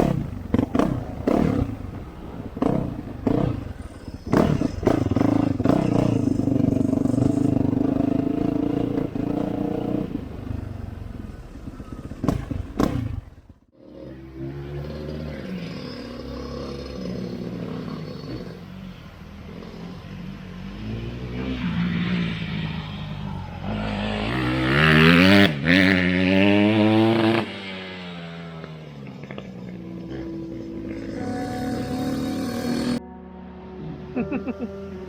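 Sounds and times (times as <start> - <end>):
motorcycle engine revving: 0.0 - 33.1.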